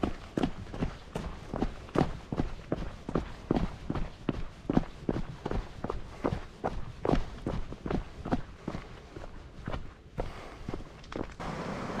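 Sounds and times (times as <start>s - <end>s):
footsteps on rocky trail: 0.0s - 11.4s.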